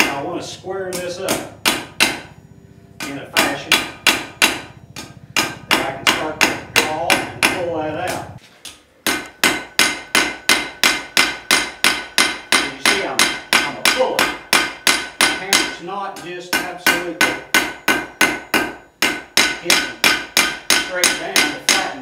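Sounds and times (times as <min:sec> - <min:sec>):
hammer ringing on anvil: 0:00.9 - 0:08.2, 0:09.1 - 0:22.0.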